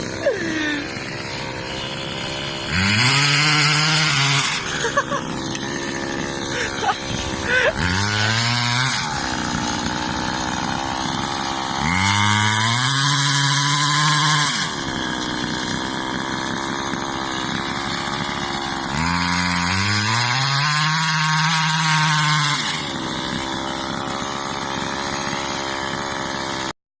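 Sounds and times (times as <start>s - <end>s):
small engine idling and revving: 0.0s - 26.8s.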